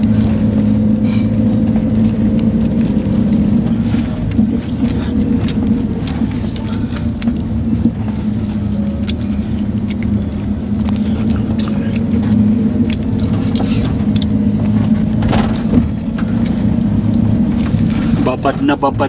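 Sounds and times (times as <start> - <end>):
van engine drone and road noise: 0.0 - 19.0.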